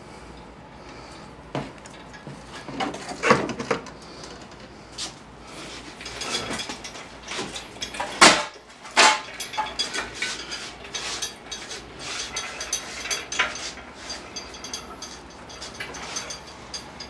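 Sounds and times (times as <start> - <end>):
engine hoist chain clanking: 1.8 - 4.6, 5.6 - 17.0.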